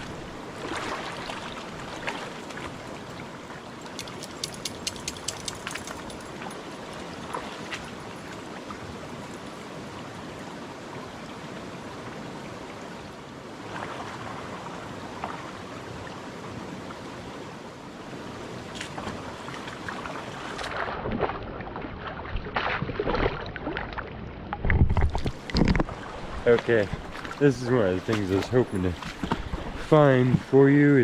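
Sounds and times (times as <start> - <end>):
rushing creek: 0.0 - 22.0, 22.8 - 31.0.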